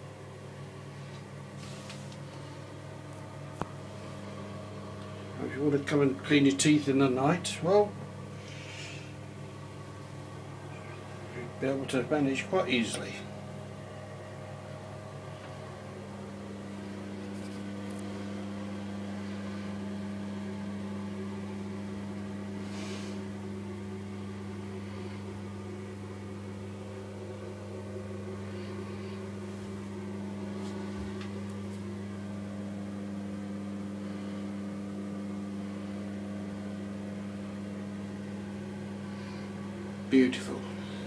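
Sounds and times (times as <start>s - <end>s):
low motor hum: 0.0s - 41.0s.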